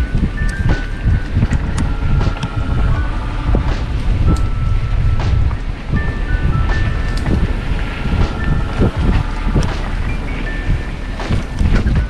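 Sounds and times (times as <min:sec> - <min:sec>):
bike tyre noise: 0:00.0 - 0:12.0
wind rumbling on microphone: 0:00.0 - 0:12.0.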